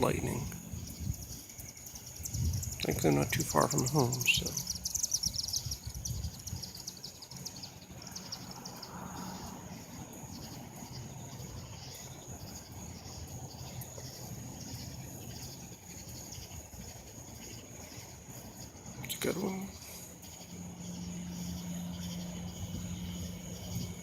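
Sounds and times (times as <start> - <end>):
high-pitched insect trill: 0.0 - 24.0
katydids calling: 0.0 - 24.0.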